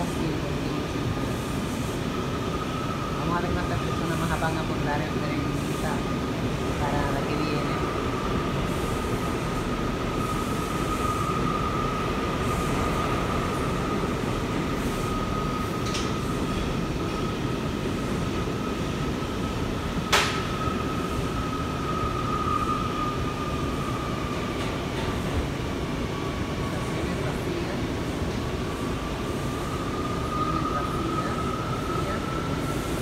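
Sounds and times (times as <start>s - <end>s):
subway car rumbling: 0.0s - 33.0s.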